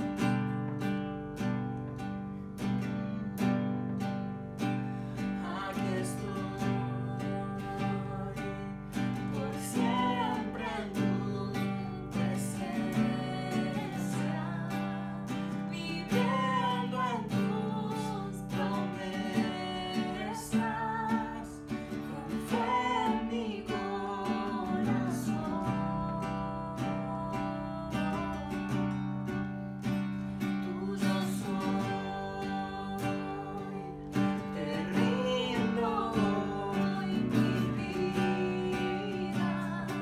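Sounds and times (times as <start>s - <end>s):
strummed acoustic guitar: 0.0s - 40.0s
person singing: 4.9s - 29.1s, 30.4s - 40.0s.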